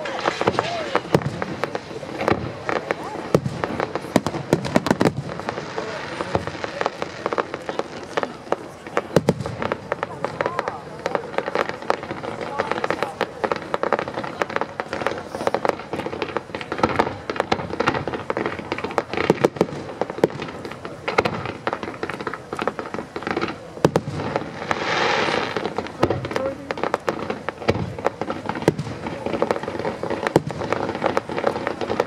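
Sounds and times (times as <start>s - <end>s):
fireworks hissing: 0.0s - 32.0s
fireworks popping and banging: 0.0s - 32.0s.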